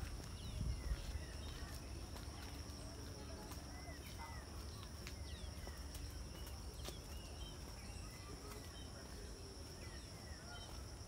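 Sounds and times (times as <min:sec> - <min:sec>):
bird chirps: 0:00.2 - 0:11.0.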